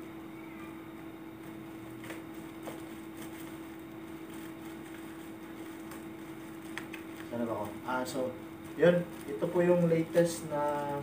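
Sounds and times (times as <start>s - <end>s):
steady low hum: 0.0s - 11.0s
bubble wrap crinkling and clicking: 1.4s - 11.0s.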